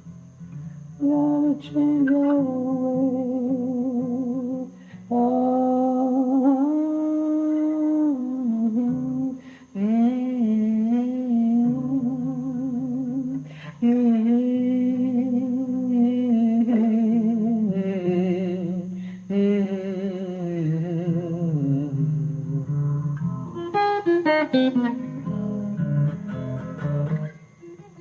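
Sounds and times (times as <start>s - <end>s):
person humming with vibrato: 1.0s - 28.0s.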